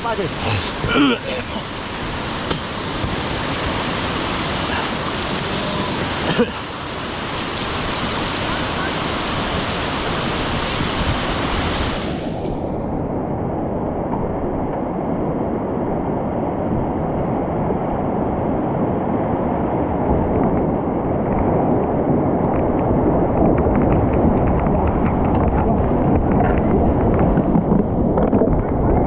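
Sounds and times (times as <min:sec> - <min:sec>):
stream water rushing: 0:00.0 - 0:25.6.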